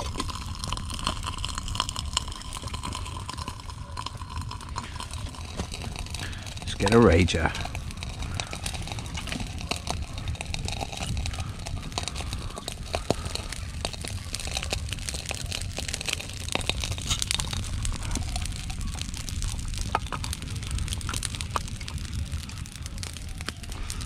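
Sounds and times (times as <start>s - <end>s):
low fire rumble: 0.0s - 24.0s
wood fire crackling and popping: 0.0s - 24.0s.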